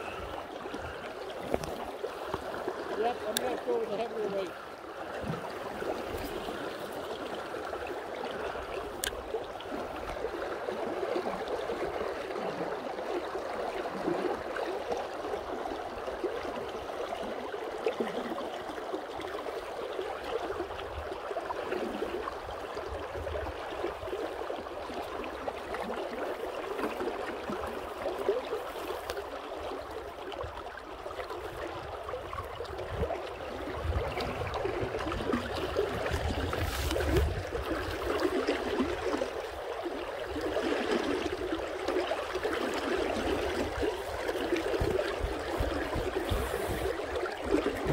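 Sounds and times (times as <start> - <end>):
river water gurgling: 0.0 - 47.9.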